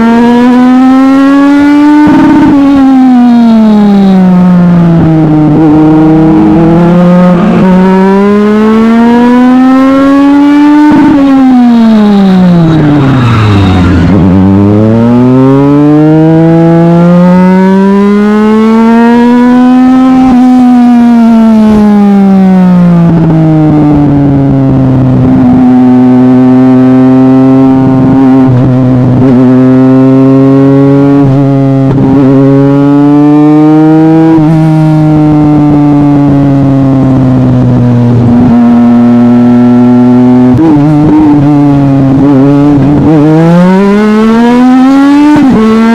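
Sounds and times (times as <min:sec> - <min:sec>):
motorcycle engine racing: 0:00.0 - 0:45.9.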